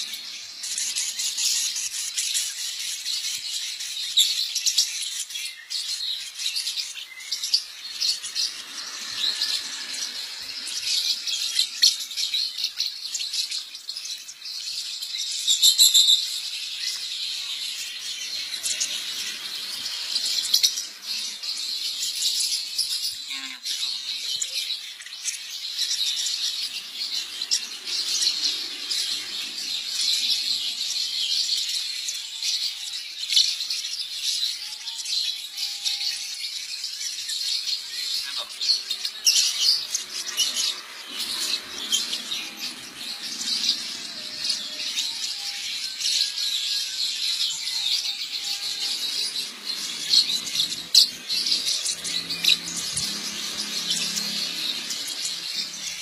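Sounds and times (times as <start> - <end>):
lovebirds chirping and chattering: 0.0 - 56.0.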